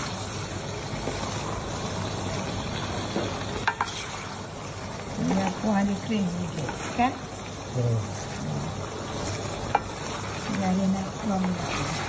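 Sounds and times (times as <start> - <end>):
spatula stirring in a wok: 0.0 - 12.0
steady sizzle: 0.0 - 12.0.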